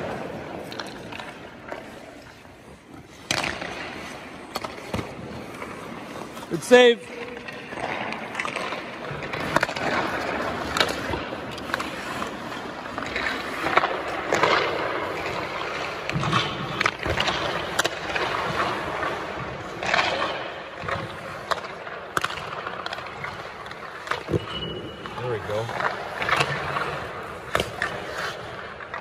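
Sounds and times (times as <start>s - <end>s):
pucks clacking on sticks and boards: 0.0s - 29.0s
skates scraping on ice: 0.0s - 29.0s.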